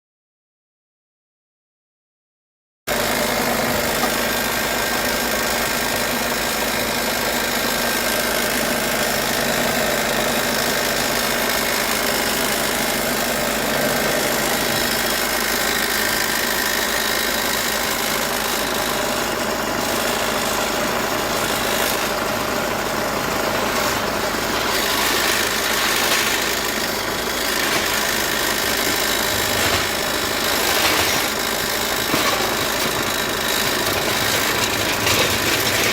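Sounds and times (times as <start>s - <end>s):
diesel engine idling: 2.9s - 35.9s.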